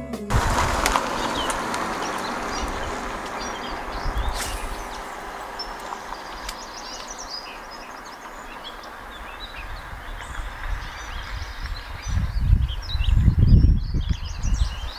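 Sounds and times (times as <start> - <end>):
creek water wash: 0.3 - 12.9
small birds chirping: 0.7 - 14.9.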